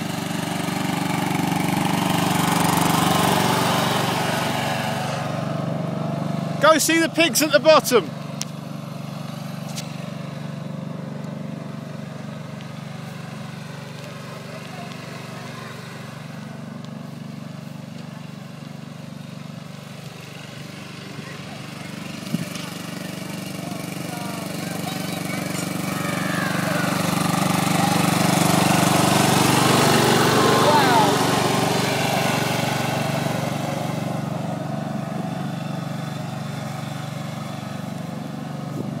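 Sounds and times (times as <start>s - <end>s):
ride-on lawn mower engine: 0.0s - 39.0s.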